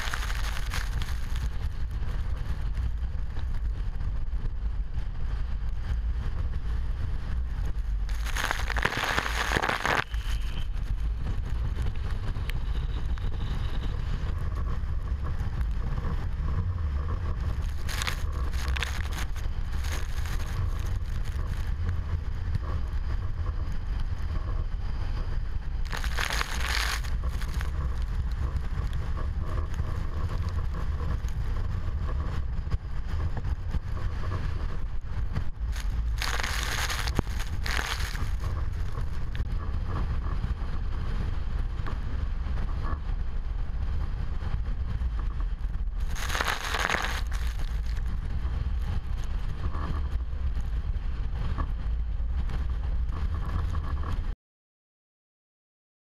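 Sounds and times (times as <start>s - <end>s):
wind buffeting microphone: 0.0s - 54.3s.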